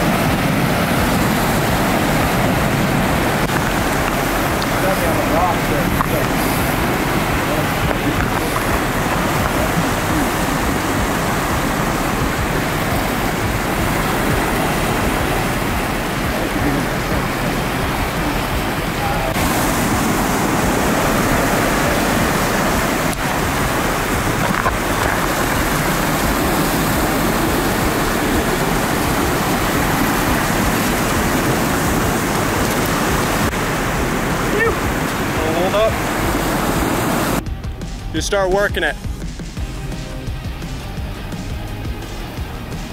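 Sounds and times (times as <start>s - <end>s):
ocean surf breaking on rocks: 0.0s - 37.5s.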